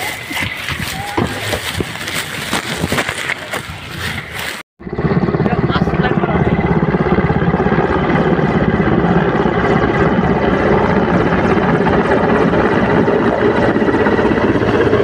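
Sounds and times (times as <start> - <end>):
helicopter rotor chopping: 0.0 - 15.0
turbine engines whining: 0.0 - 15.0.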